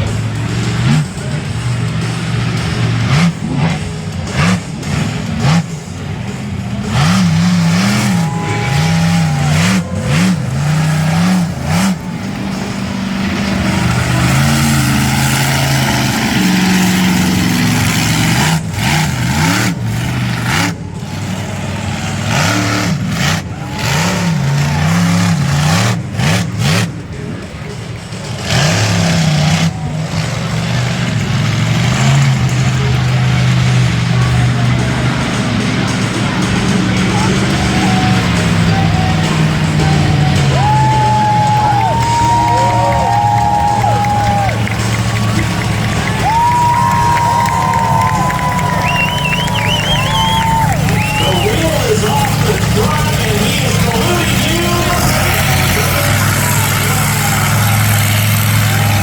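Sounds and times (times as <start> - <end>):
monster truck engine revving: 0.0 - 59.0.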